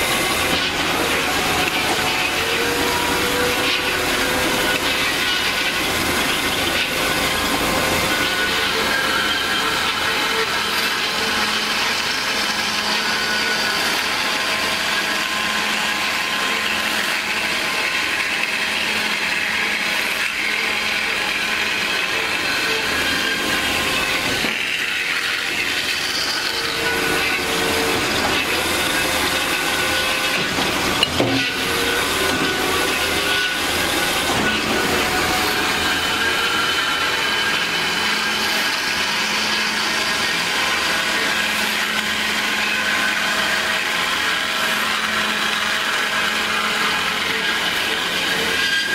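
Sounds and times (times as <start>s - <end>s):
band saw whirring: 0.0s - 48.9s.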